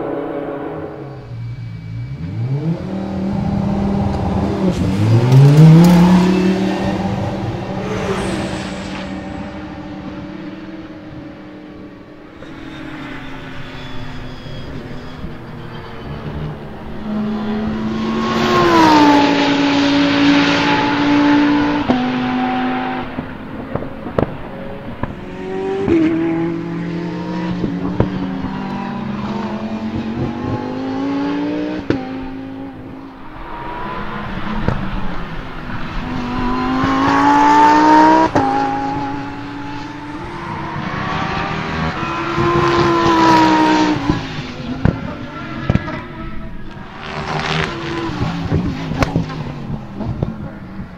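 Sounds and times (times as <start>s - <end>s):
racing car engine at high revs: 0.0s - 50.9s.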